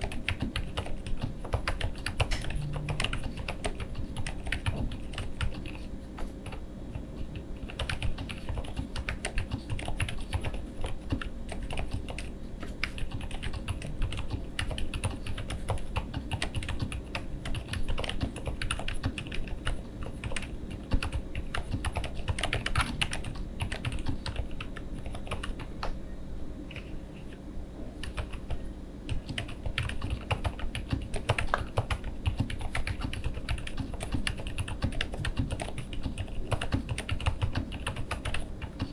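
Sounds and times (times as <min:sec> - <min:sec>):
mechanical keyboard typing: 0:00.0 - 0:06.6, 0:07.6 - 0:26.0, 0:28.0 - 0:38.9.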